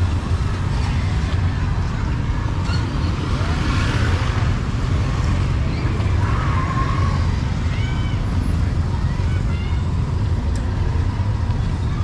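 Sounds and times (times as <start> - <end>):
motorbikes and cars passing: 0.0 - 12.0.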